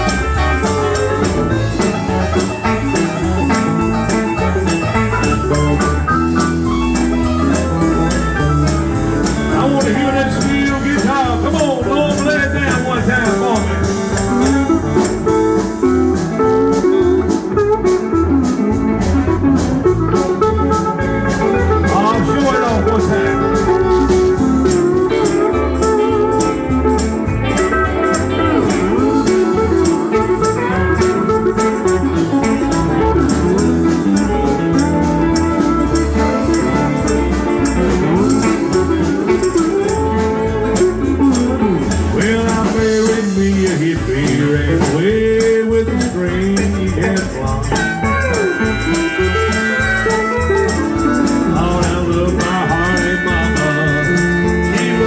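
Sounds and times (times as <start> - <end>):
bass guitar: 0.0 - 55.0
lead guitar with sliding notes: 0.0 - 55.0
steady drum beat: 0.0 - 55.0.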